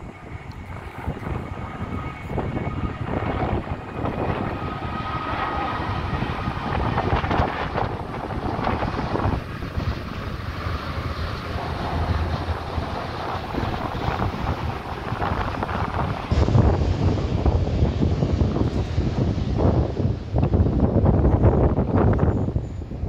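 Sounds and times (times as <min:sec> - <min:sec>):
jet airliner passing overhead: 0:00.0 - 0:23.0
wind on microphone: 0:00.0 - 0:23.0.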